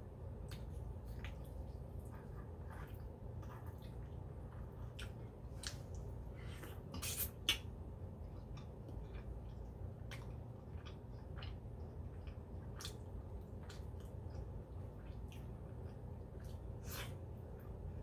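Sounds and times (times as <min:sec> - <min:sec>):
low steady hum: 0:00.0 - 0:18.0
wet chewing and lip smacks: 0:00.4 - 0:17.2.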